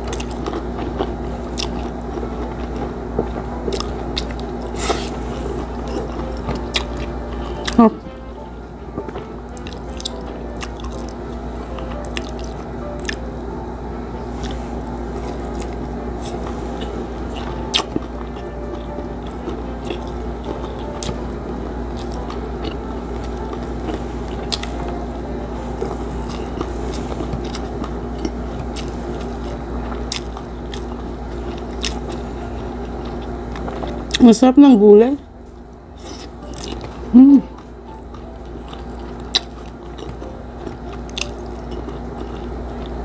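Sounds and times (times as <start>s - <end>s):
chewing and wet mouth noises: 0.0s - 13.4s, 14.2s - 34.4s, 35.2s - 43.0s.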